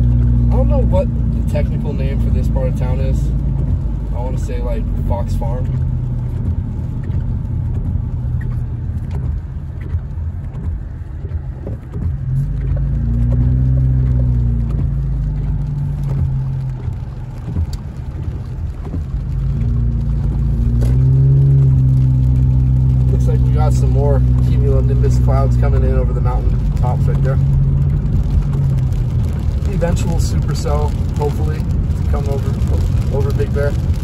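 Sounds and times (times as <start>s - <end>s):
car engine: 0.0s - 34.0s
tyres on wet road: 0.0s - 34.0s.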